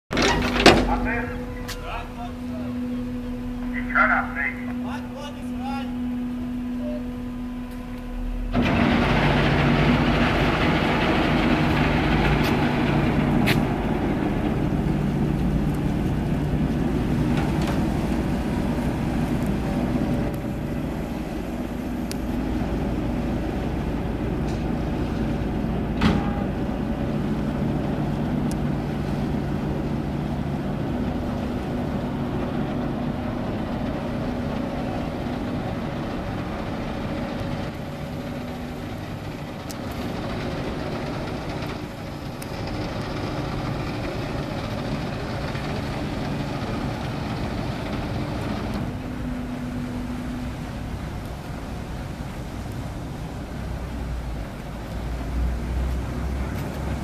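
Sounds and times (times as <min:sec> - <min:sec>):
ferry diesel engines: 0:00.0 - 0:57.0.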